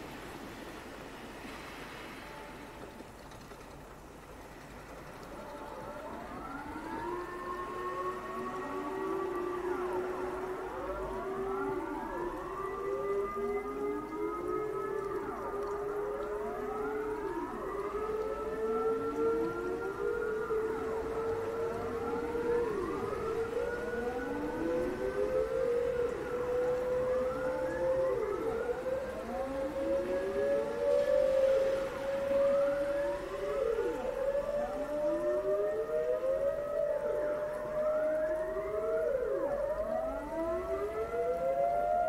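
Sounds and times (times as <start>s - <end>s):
siren wailing: 1.4s - 42.0s
warning siren held tone: 4.8s - 42.0s.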